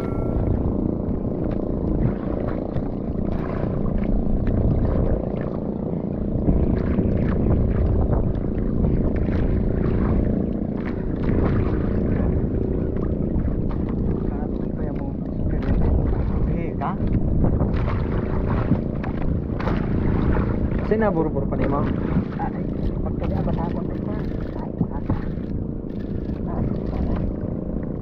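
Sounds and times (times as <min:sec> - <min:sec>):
boat motor droning: 0:00.0 - 0:28.0.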